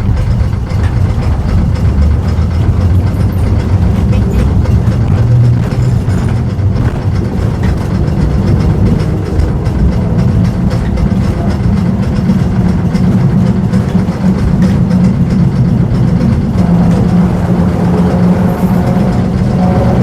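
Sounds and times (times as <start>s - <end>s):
tram rumbling on rails: 0.0s - 20.0s
wheels clicking on track: 0.0s - 20.0s.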